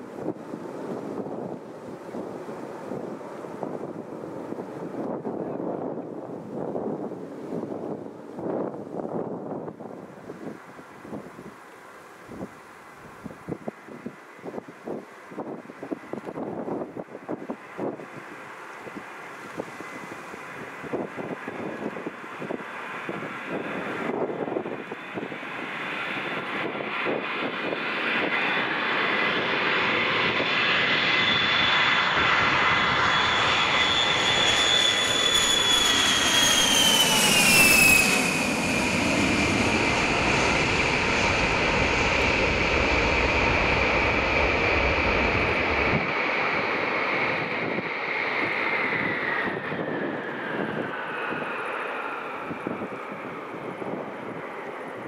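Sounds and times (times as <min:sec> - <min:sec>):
low jet rumble: 0:00.0 - 0:11.5, 0:13.2 - 0:55.0
jet aircraft passing by: 0:00.0 - 0:11.6, 0:12.2 - 0:55.0.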